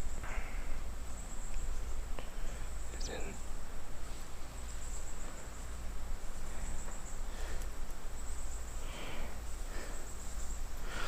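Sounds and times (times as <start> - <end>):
insects shrilling: 0.0 - 11.0
low outdoor rumble: 0.0 - 11.0.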